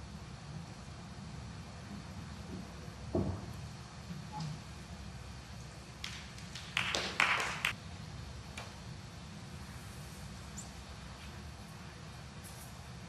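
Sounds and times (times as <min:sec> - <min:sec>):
quiet arena hum: 0:00.0 - 0:13.0.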